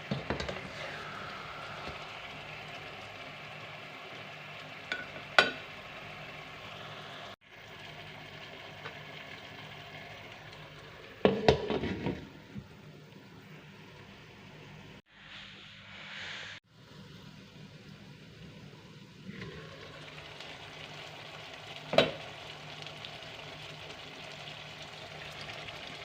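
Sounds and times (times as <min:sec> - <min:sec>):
food sizzling in a pan: 0:00.0 - 0:12.2, 0:15.1 - 0:26.0.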